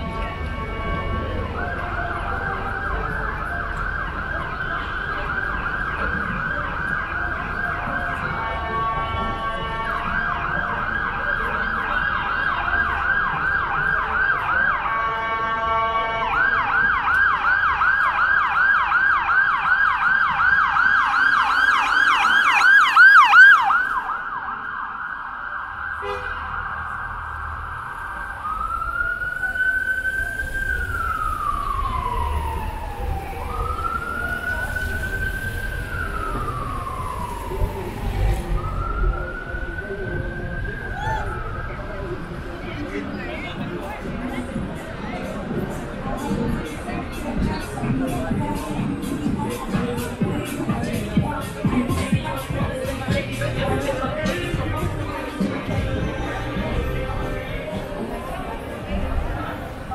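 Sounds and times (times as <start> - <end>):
emergency vehicle siren: 0.0 - 59.9.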